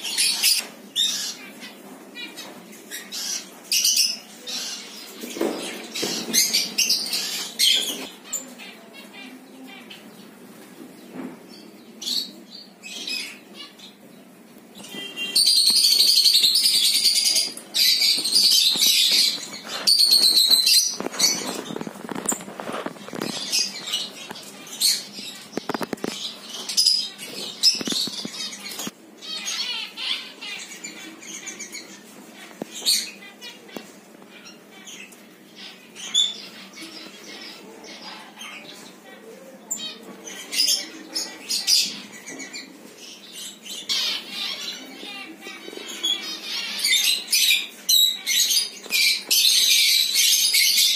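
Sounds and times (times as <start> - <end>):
birds screeching: 0.0 - 10.2, 14.8 - 38.9, 39.7 - 50.9
birds chattering and chirping: 0.0 - 50.9.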